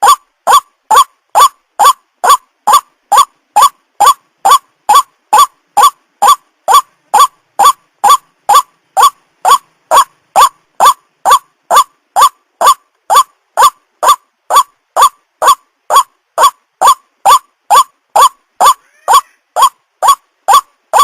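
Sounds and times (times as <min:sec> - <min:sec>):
waterhen calling: 0:00.0 - 0:21.0.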